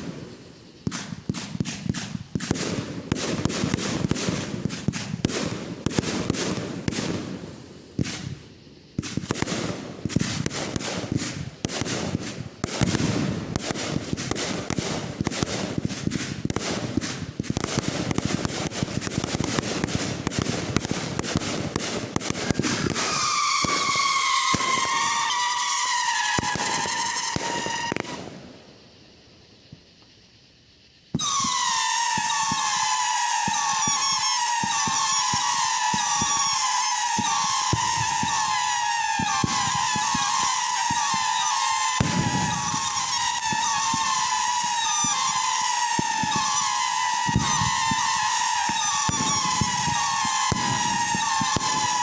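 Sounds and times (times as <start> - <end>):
firework crackling: 0.0 - 52.0
firework whistles: 0.0 - 52.0.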